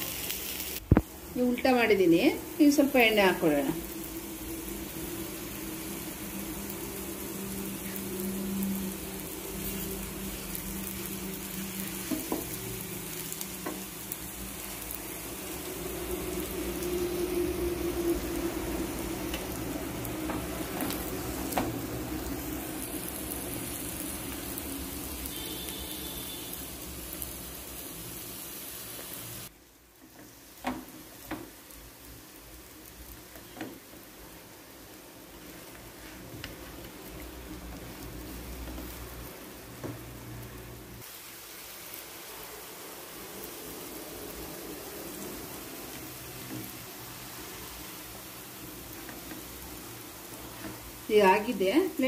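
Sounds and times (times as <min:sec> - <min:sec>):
oil sizzling on a griddle: 0:00.0 - 0:52.0.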